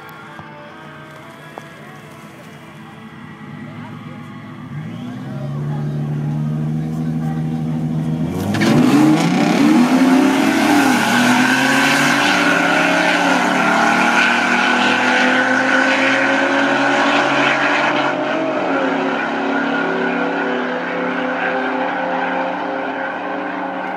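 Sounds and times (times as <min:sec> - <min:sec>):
car engines at full throttle: 0:00.0 - 0:23.9.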